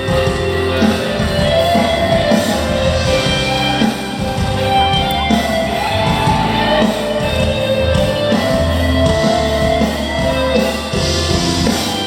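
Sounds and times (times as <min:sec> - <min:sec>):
live rock band music: 0:00.0 - 0:12.0.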